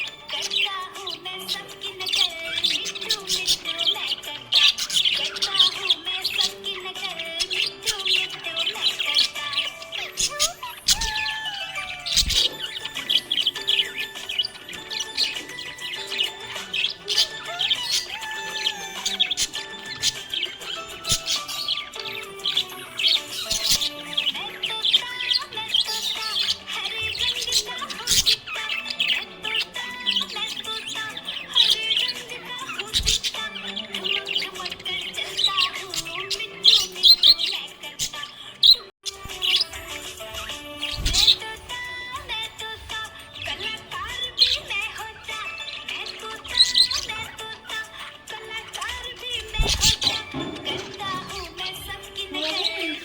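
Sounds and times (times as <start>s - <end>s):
background music: 0.0s - 53.0s
budgerigars chirping and squawking: 0.0s - 53.0s.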